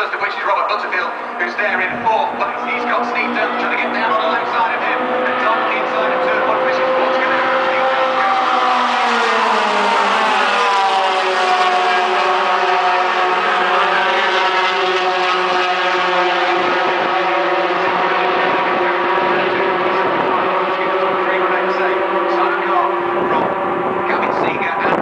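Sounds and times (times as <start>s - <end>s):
racing trucks passing: 0.0s - 25.0s.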